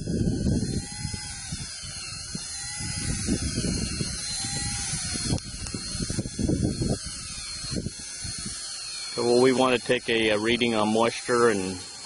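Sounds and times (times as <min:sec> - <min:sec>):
cordless drill motor whine: 0:00.0 - 0:12.0.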